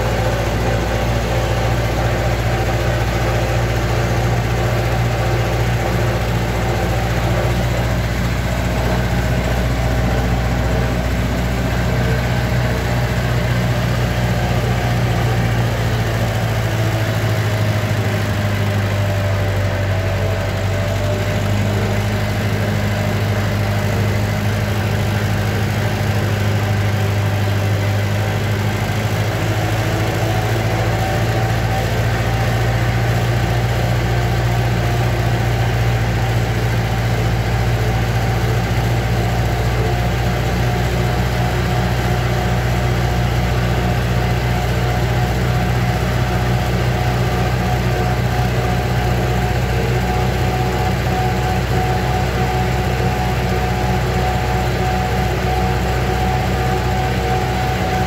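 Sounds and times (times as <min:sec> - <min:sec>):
tractor engine drone: 0:00.0 - 0:58.0.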